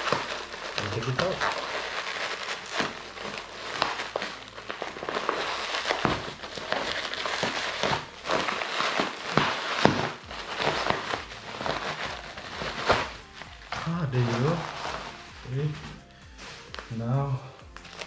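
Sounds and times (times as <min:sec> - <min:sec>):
bubble wrap crinkling and crackling: 0:00.0 - 0:18.0.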